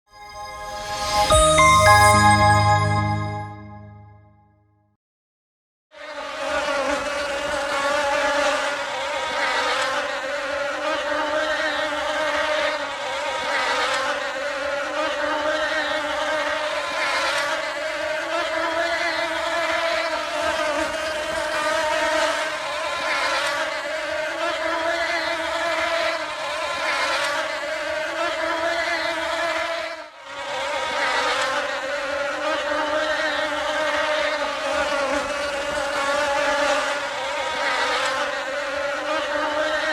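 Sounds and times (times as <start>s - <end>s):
bee buzzing in flight: 6.0s - 39.9s.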